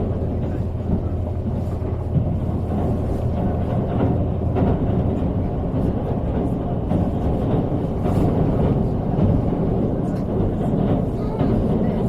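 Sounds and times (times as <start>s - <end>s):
train rumble inside cabin: 0.0s - 12.0s.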